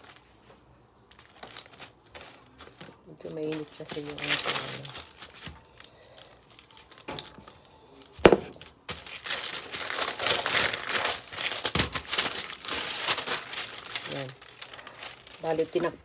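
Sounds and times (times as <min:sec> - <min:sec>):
plastic crinkling and rustling: 0:00.0 - 0:16.0.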